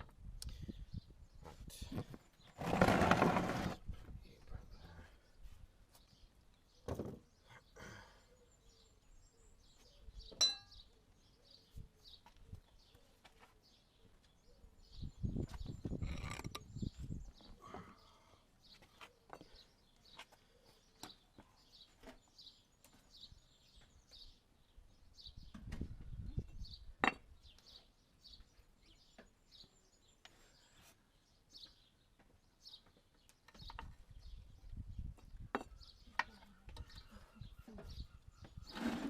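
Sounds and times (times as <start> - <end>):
birds chirping: 0.4 - 39.0.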